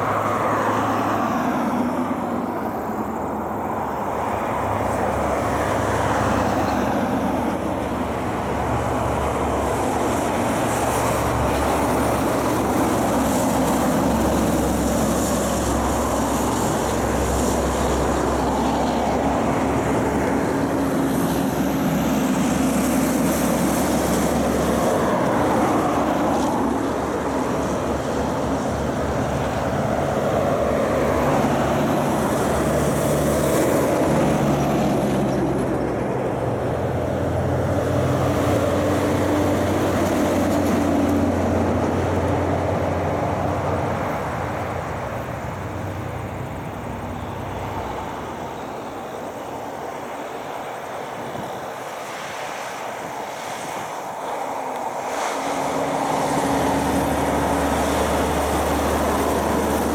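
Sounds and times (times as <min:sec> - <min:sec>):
diesel truck engines: 0:00.0 - 0:59.9.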